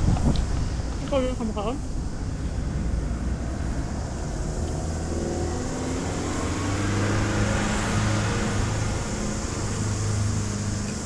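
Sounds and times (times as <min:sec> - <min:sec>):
vehicle engine speeding up: 0:02.1 - 0:11.0.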